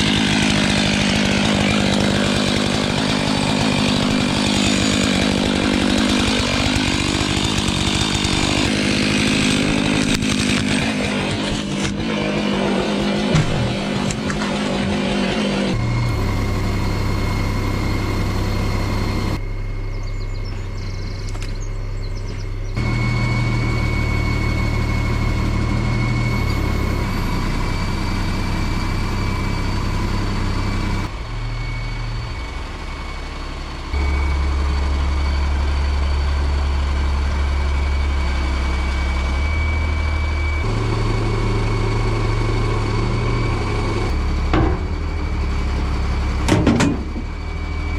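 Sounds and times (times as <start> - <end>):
large engine droning with whine: 0.0 - 47.9.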